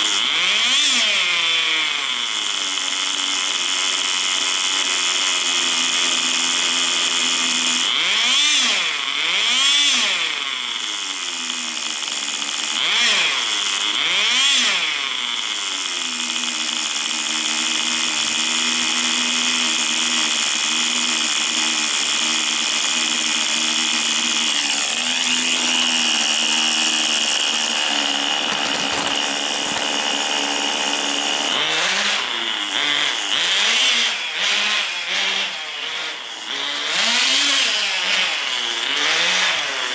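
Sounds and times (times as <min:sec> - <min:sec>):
rc car nitro engine buzzing: 0:00.0 - 0:39.9.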